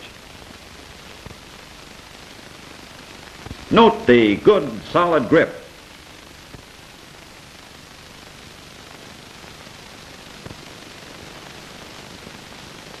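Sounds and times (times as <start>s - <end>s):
old film soundtrack hiss: 0.0s - 13.0s.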